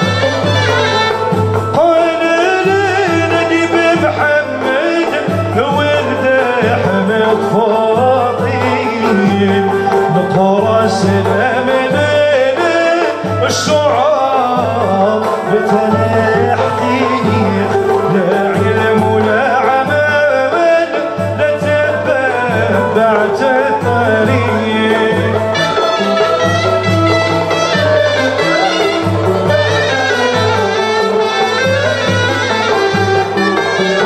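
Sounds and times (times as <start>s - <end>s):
ouds playing: 0.0s - 34.0s
pulsing drum beat: 0.0s - 34.0s
violins playing melody: 0.0s - 34.0s.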